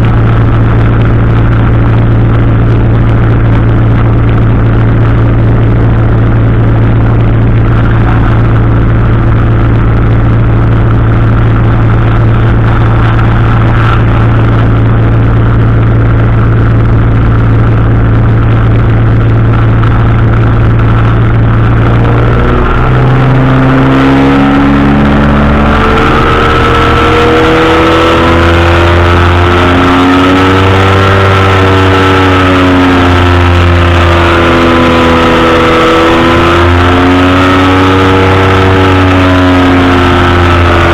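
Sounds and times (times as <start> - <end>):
powered parachute engine and propeller: 0.0 - 40.9.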